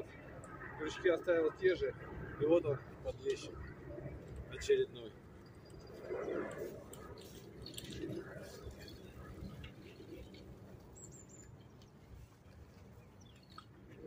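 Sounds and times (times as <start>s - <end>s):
soft scattered clicks: 0.1s - 0.8s, 3.0s - 14.0s.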